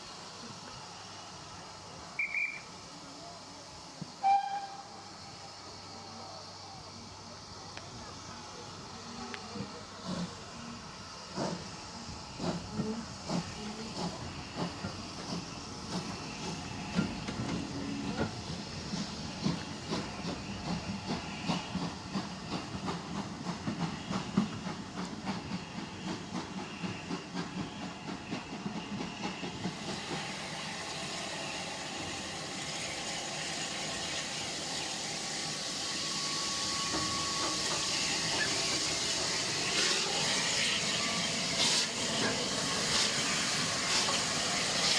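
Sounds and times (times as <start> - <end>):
steam hiss: 0.0 - 44.9
steam locomotive beats: 3.7 - 44.9.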